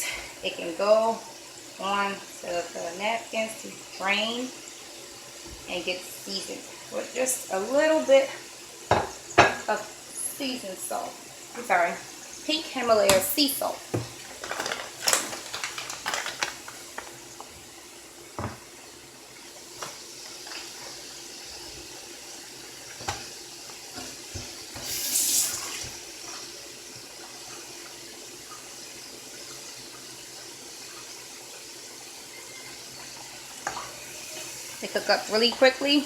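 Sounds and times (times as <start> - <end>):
fries deep-frying in hot oil: 0.0 - 36.0.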